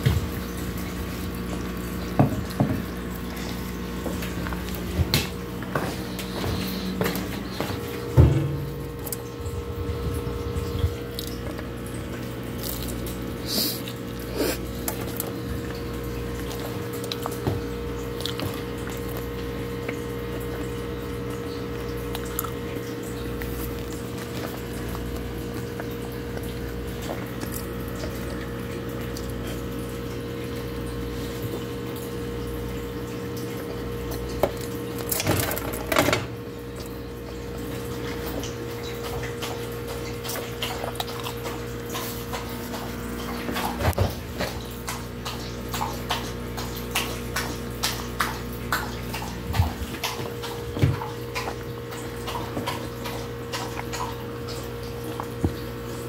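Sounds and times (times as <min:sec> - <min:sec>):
chewing and wet mouth sounds: 0:00.0 - 0:56.0
steady electrical hum: 0:00.0 - 0:56.0.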